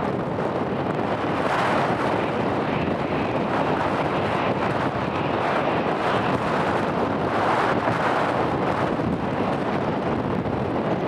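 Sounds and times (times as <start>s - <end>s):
jet engines roaring: 0.0s - 11.0s
wind on microphone: 0.0s - 11.0s.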